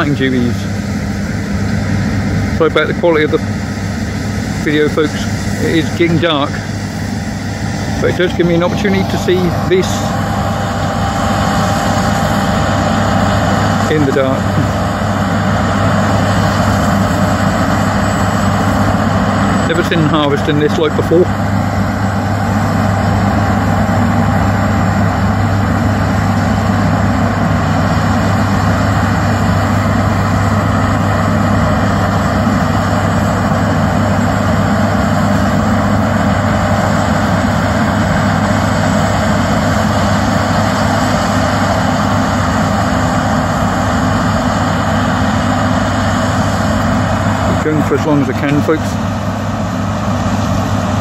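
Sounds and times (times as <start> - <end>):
combine harvester engine drone: 0.0 - 51.0.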